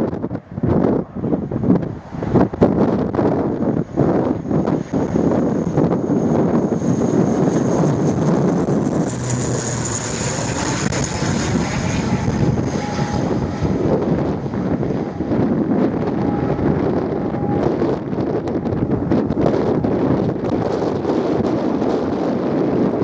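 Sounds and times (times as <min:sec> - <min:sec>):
high whine: 0:00.0 - 0:23.0
turboprop airliner landing: 0:00.0 - 0:23.0
wind buffeting microphone: 0:00.0 - 0:23.0.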